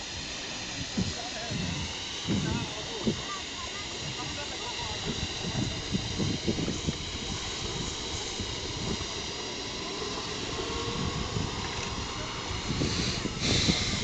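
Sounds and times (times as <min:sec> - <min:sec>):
steady hiss: 0:00.0 - 0:14.0
wind rumbling on microphone: 0:00.1 - 0:03.2, 0:04.0 - 0:14.0.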